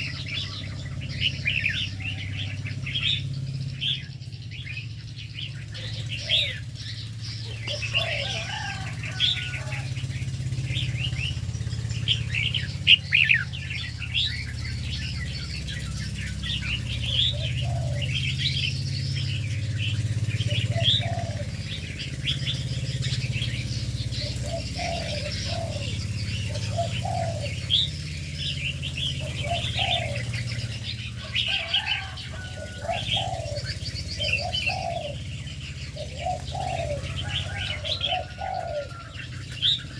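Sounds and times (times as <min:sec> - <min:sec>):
birds chirping: 0:00.0 - 0:39.9
lower bird calls: 0:00.0 - 0:39.9
steady low hum: 0:00.0 - 0:39.9.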